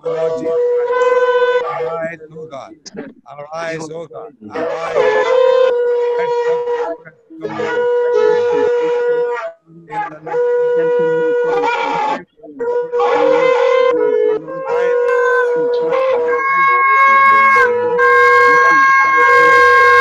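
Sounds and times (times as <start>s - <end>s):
shofars blowing long notes: 0.0s - 2.2s, 4.5s - 20.0s.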